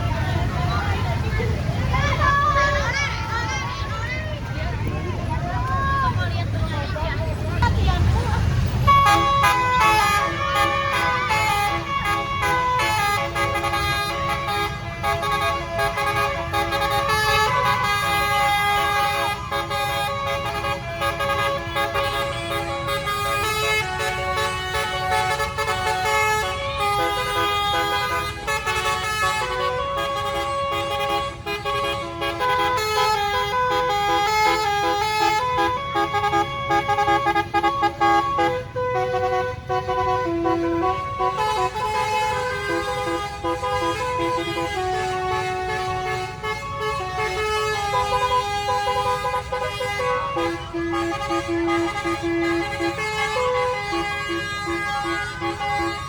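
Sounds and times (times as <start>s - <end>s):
musical air horn melody: 8.9s - 56.0s.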